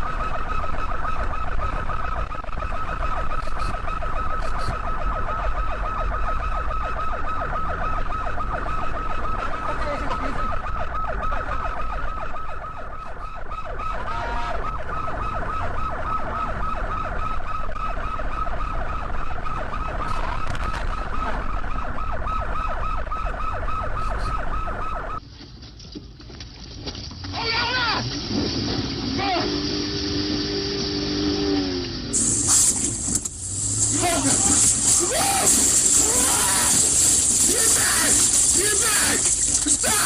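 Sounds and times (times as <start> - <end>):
police siren warbling: 0.0 - 25.2, 29.2 - 40.0
road and engine rumble: 0.0 - 40.0.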